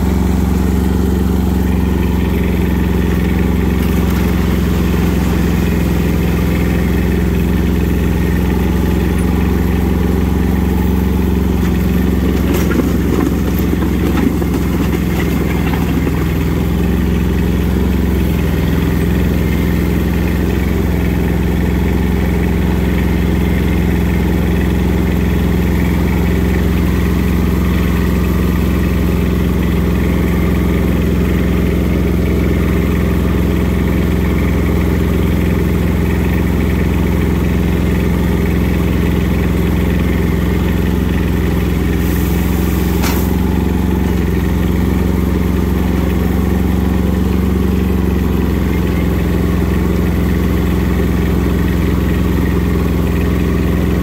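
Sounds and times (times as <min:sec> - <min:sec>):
tires on gravel: 0:00.0 - 0:54.0
tractor diesel engine running: 0:00.0 - 0:54.0.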